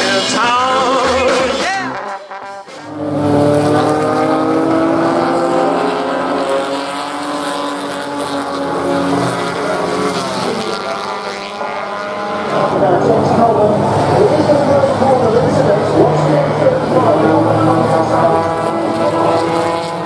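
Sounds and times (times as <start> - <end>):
racing car engines passing: 0.0 - 20.0.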